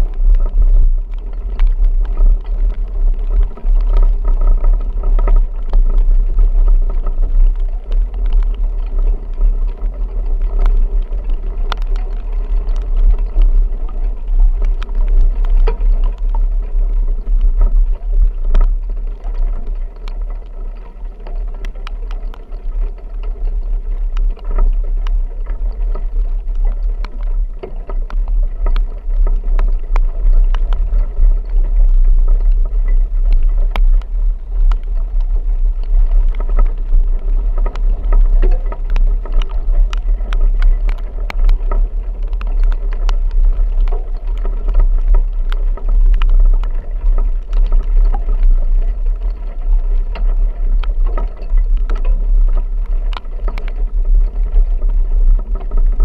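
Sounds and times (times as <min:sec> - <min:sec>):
rain tapping: 0:00.0 - 0:56.0
vehicle rumble: 0:00.0 - 0:56.0.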